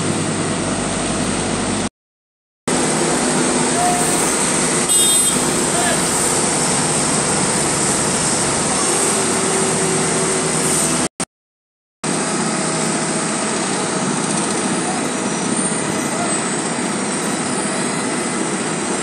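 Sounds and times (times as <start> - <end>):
heavy diesel engines droning: 0.0 - 1.9, 2.7 - 11.1, 12.1 - 19.0.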